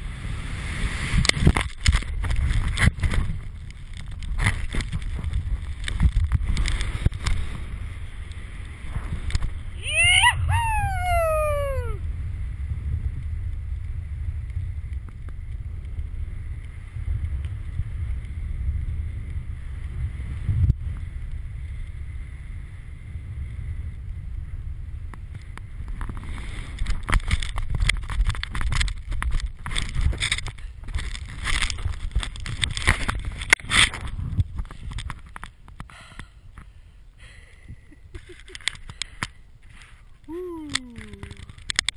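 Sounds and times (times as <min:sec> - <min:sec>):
crackling and rustling on microphone: 0:00.0 - 0:41.9.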